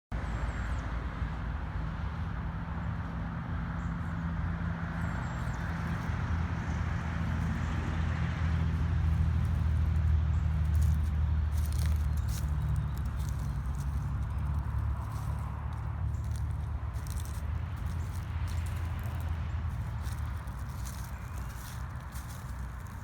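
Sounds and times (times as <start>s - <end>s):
vehicle engine running: 2.2s - 23.0s.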